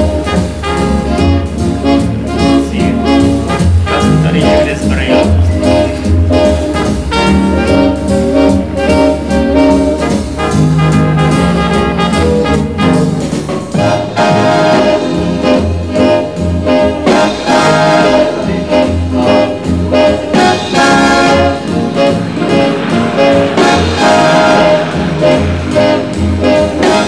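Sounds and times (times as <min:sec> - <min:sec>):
brass background music: 0:00.0 - 0:27.0
low bass line: 0:00.0 - 0:27.0.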